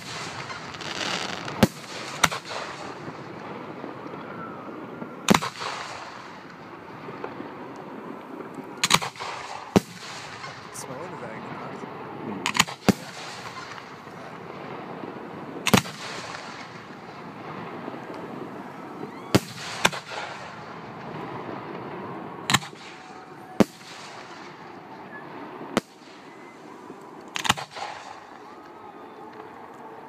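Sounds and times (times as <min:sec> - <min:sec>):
background hiss: 0:00.0 - 0:30.0
fireworks bursting: 0:00.0 - 0:30.0.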